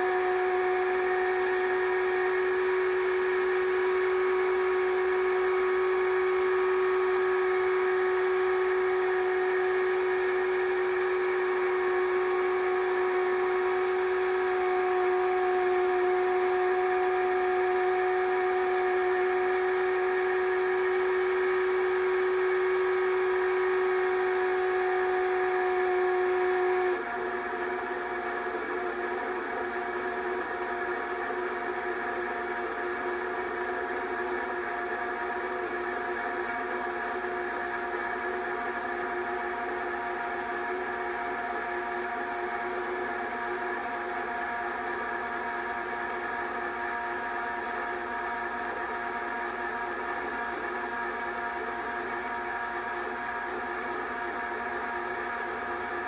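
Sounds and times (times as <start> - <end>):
film projector motor whine: 0.0 - 56.0.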